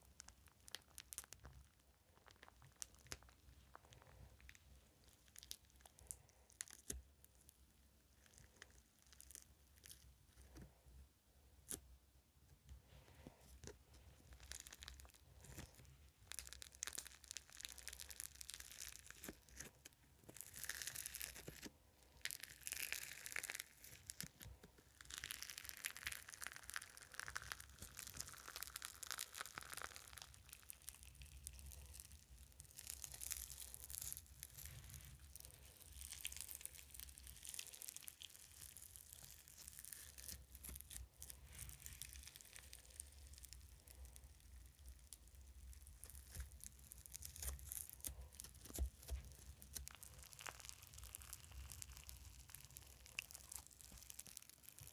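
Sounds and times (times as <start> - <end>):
foam slime crackling: 0.0 - 10.6, 13.4 - 54.9.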